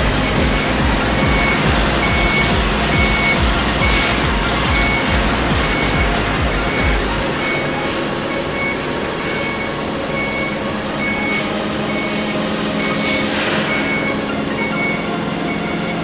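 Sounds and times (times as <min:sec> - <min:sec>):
truck running noise: 0:00.0 - 0:16.0
truck warning beeper: 0:00.0 - 0:16.0.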